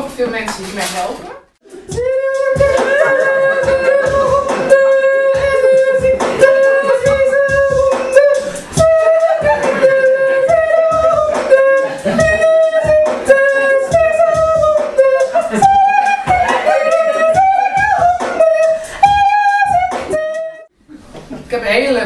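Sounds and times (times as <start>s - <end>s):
woman beatboxing: 1.6s - 20.7s.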